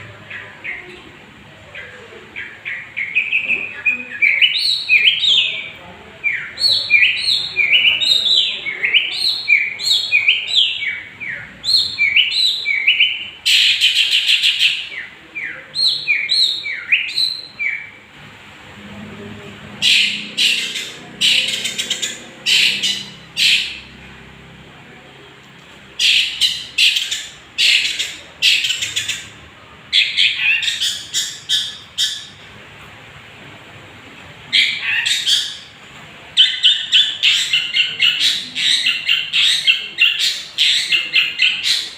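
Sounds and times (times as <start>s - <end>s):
bird harsh chattering calls: 1.7s - 18.0s, 19.8s - 24.0s, 26.0s - 32.4s, 34.5s - 35.8s, 36.4s - 41.9s.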